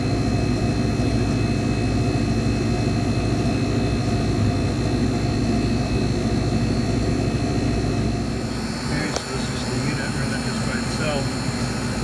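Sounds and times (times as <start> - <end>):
refrigeration unit humming: 0.0 - 12.0.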